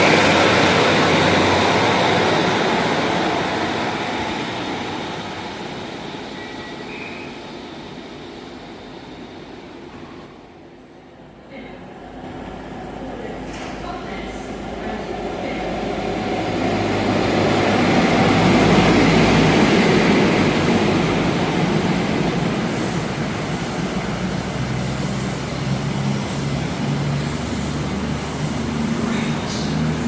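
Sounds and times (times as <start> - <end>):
diesel train rumble: 0.0 - 30.0.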